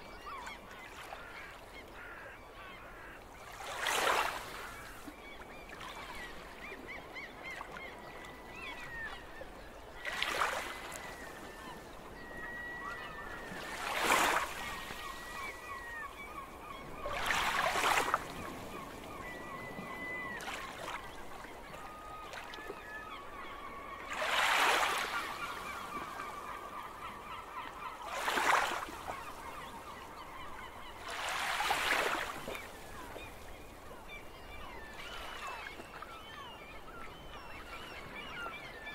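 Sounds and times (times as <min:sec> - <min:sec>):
faint bird calls: 0:00.0 - 0:38.9.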